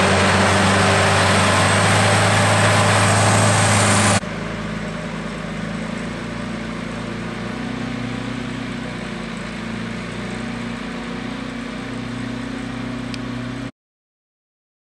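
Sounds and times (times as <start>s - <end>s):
diesel engine droning: 0.0s - 13.7s.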